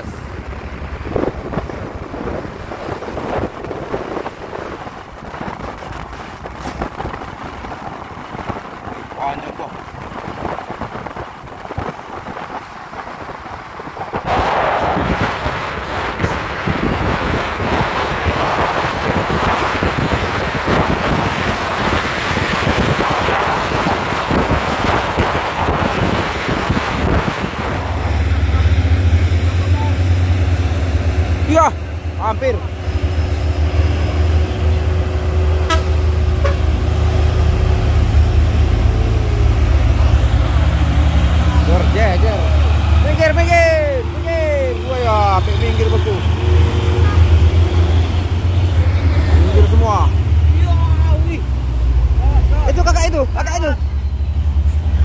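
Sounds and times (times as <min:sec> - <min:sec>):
heavy vehicles rumbling: 0:00.0 - 0:55.0
wind buffeting microphone: 0:00.0 - 0:55.0.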